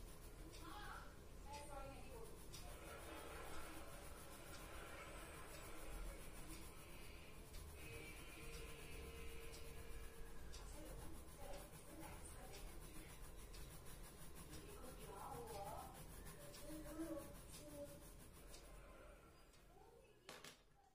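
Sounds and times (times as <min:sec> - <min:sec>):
pencil scratching on paper: 0:00.0 - 0:19.1.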